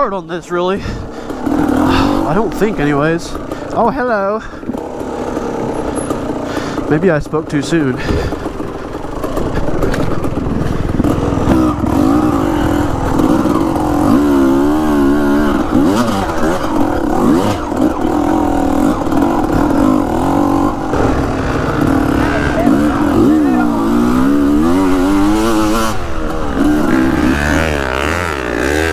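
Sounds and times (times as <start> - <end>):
dirt bike engine revving: 0.6 - 28.9.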